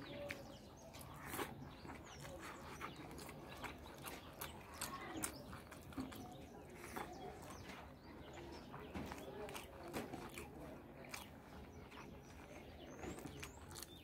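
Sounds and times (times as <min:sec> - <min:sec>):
person chewing with mouth clicks: 0:00.2 - 0:07.7, 0:09.1 - 0:14.0.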